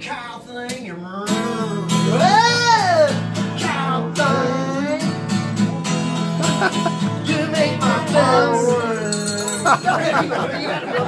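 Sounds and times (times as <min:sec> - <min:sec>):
acoustic guitars strumming chord: 0:01.2 - 0:11.0.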